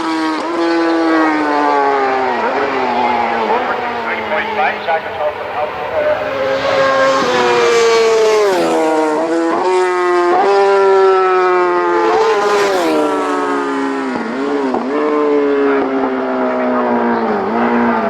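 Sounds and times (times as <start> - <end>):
racing motorcycles passing: 0.0 - 18.0.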